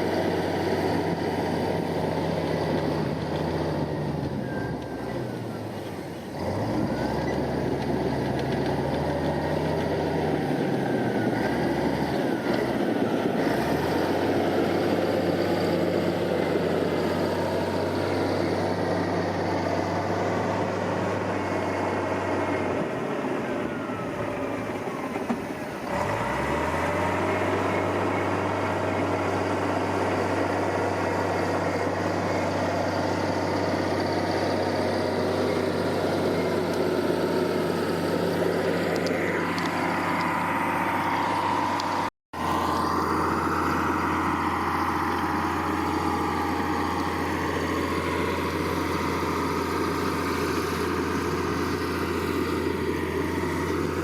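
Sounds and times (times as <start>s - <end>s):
heavy diesel engine under load: 0.0s - 54.0s.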